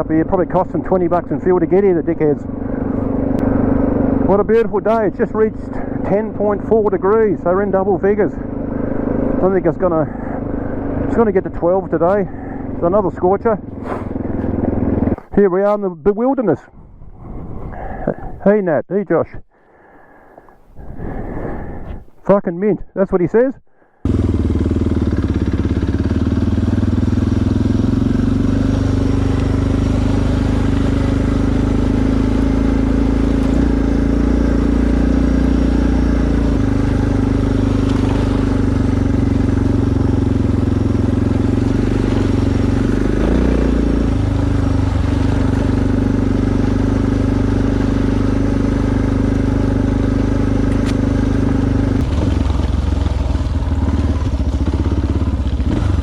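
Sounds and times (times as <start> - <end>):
motorcycle engine running: 0.0 - 15.5, 24.0 - 56.0.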